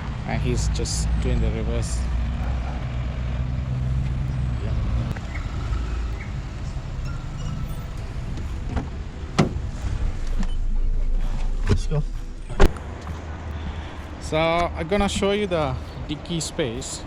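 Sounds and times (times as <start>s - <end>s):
car engine at low speed: 0.0s - 17.0s.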